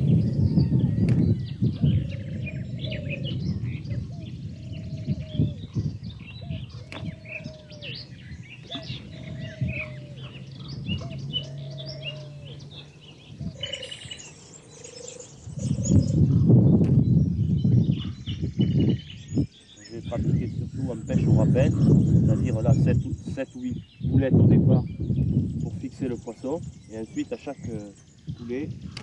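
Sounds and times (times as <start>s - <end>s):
low rumbling noise: 0.0s - 25.9s
birds chirping and singing: 0.0s - 29.0s
low arched bird call: 0.0s - 29.0s.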